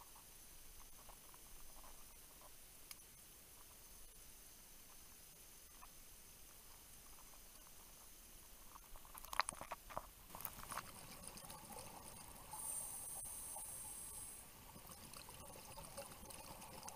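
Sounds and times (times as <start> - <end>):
sharp underwater clicks and crackles: 0.0 - 3.9, 5.7 - 16.9
steady high hiss: 0.0 - 9.2, 9.8 - 16.9.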